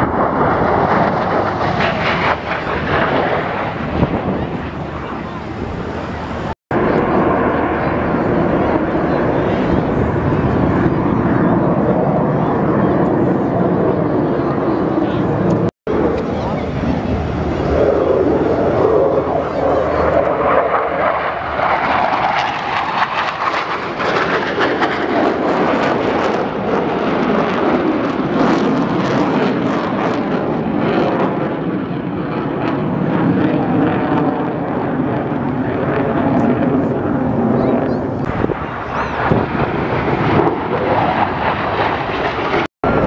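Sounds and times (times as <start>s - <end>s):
jet engine roar flying past: 0.0s - 43.0s.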